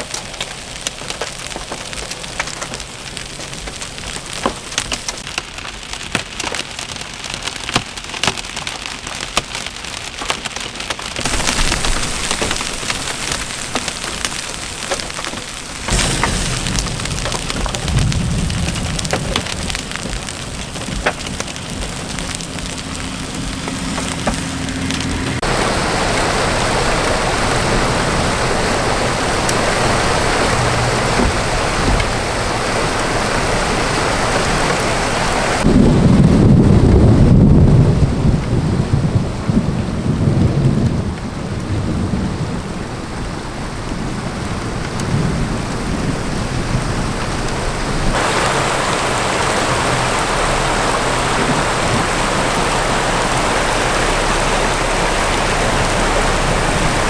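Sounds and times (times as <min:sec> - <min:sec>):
heavy rain hissing: 0:00.0 - 0:05.3, 0:11.1 - 0:40.8, 0:41.8 - 0:57.0
low rumble of thunder: 0:11.2 - 0:57.0.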